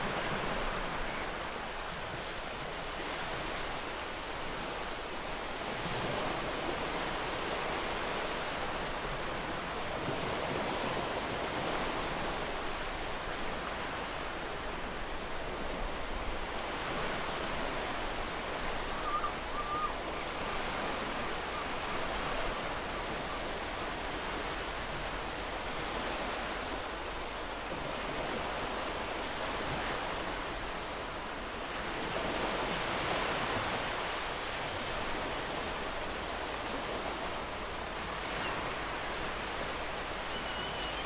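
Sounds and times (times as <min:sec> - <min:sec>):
ocean waves breaking on shore: 0:00.0 - 0:41.0.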